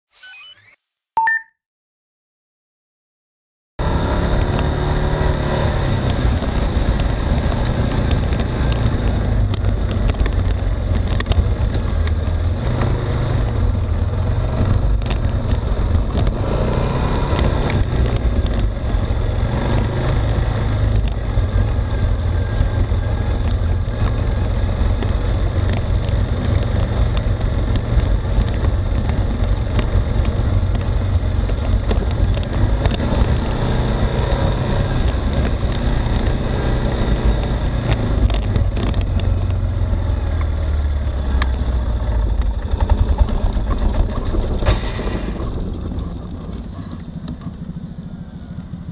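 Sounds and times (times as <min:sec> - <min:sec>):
atv engine droning: 0:03.8 - 0:48.9.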